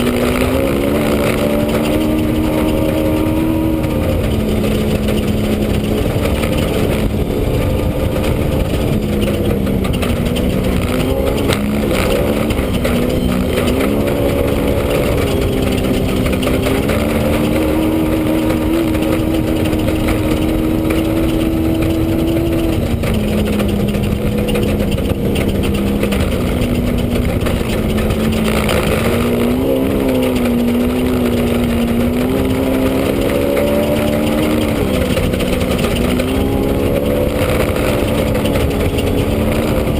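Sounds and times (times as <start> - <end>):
race vehicle engine at speed: 0.0 - 39.9.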